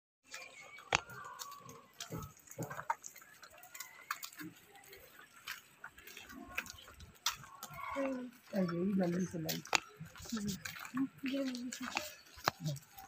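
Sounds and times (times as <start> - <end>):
footsteps on concrete: 0.3 - 13.0.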